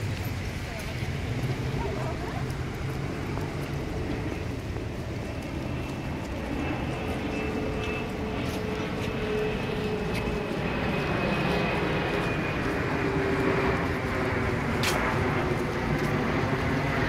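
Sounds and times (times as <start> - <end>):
slow vehicle engines rumbling: 0.0 - 17.0.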